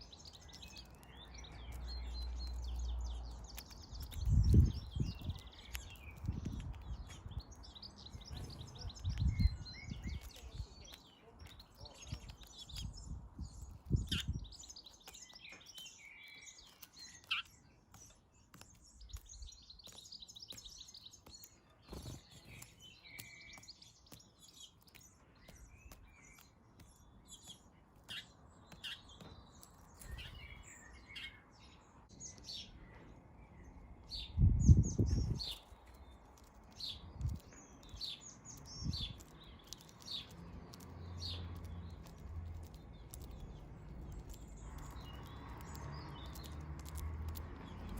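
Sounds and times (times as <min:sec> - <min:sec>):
birds chirping and twittering: 0:00.0 - 0:47.9.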